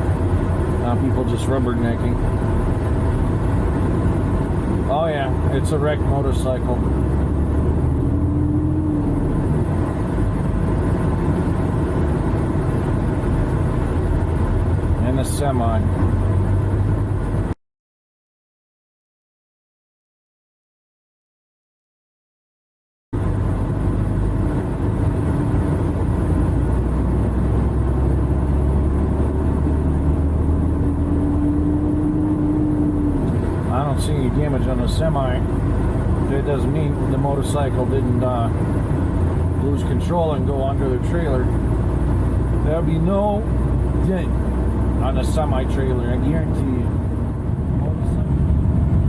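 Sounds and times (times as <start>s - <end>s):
diesel truck engine drone: 0.0s - 17.6s, 23.2s - 49.0s.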